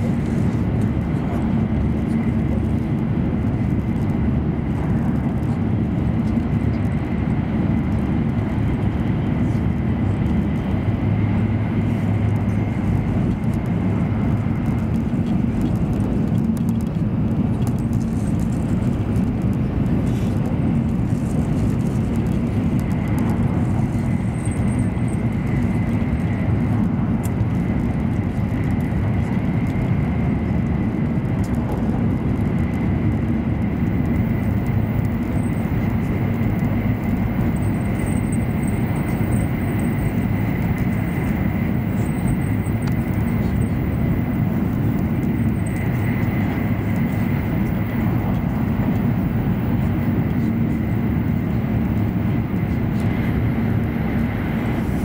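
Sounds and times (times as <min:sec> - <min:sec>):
train rumble at speed: 0:00.0 - 0:55.0.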